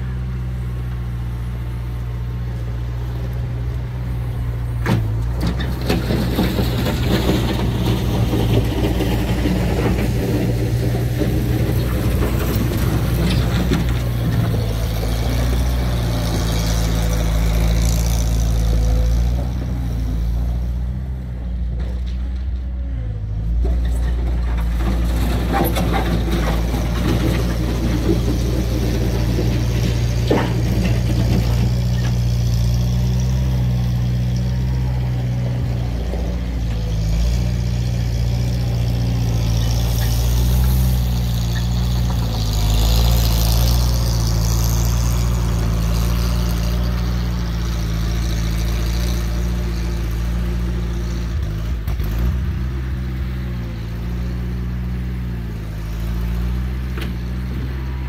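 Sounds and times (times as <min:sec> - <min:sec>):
loader engine running: 0:00.0 - 0:58.0.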